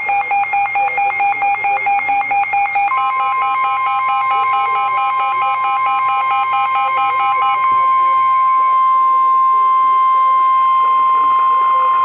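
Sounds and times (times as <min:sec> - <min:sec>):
rapidly pulsing electronic beep: 0:00.0 - 0:12.0
steady high alarm tone: 0:00.0 - 0:12.0.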